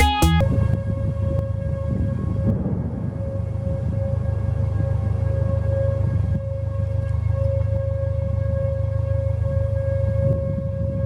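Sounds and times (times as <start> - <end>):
warning siren steady tone: 0.0 - 11.0
low steady rumble: 0.3 - 11.0.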